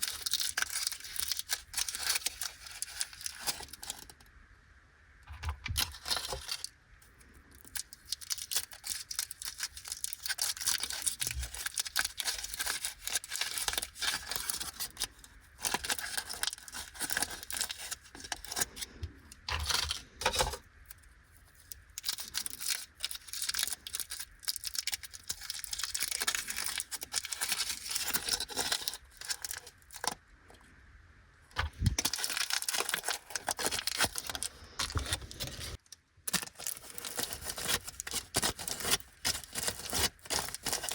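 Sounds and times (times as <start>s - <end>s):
wrappers crinkling and tearing: 0.0s - 4.2s, 5.8s - 6.7s, 7.4s - 20.6s, 21.4s - 30.2s, 31.8s - 40.9s.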